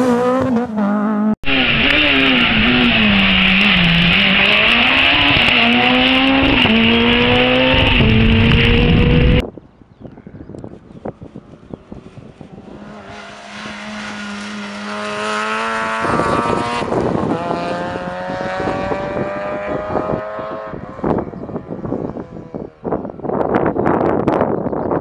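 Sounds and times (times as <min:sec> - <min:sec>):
rally car engine at full throttle: 0:00.0 - 0:09.4, 0:10.8 - 0:24.1.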